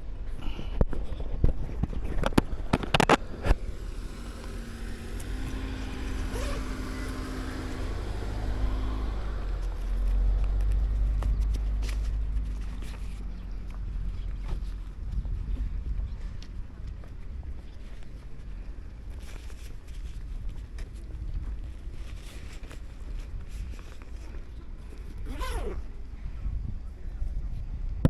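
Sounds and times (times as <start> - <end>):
wind rumble on microphone: 0.0 - 28.0
vehicle engine humming: 1.4 - 27.3.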